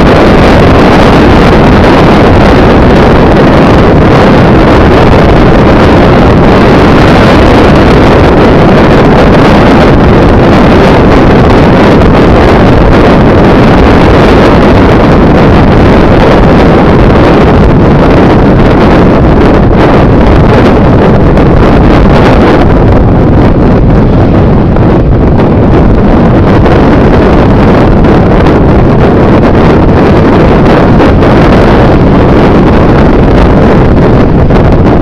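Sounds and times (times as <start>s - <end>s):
moving vehicle rushing noise: 0.0s - 35.0s
wind on microphone: 0.0s - 35.0s.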